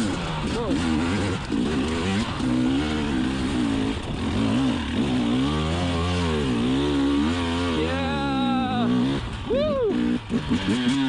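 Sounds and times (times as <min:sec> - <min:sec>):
motorcycle engine revving under load: 0:00.0 - 0:11.0.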